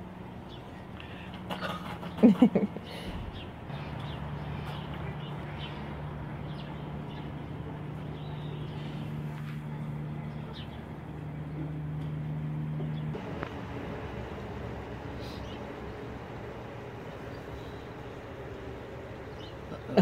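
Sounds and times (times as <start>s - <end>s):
low mechanical hum: 0.0s - 20.0s
outdoor background noise: 0.0s - 20.0s.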